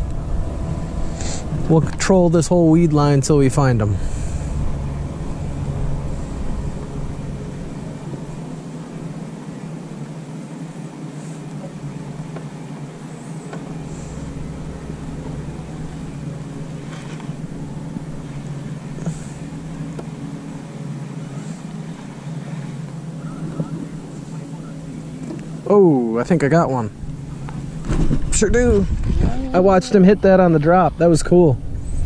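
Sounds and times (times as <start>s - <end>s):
boat motor humming: 0.0s - 32.0s.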